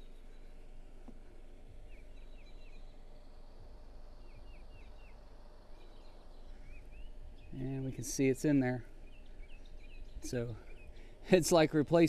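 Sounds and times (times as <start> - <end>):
small bird chirping: 0.0 - 11.6
low steady rumble: 0.0 - 12.0.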